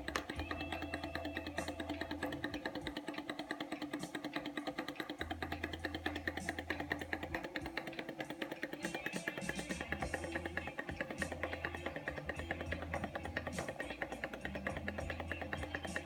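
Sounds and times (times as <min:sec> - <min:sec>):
small engine rapid ticking: 0:00.0 - 0:16.0.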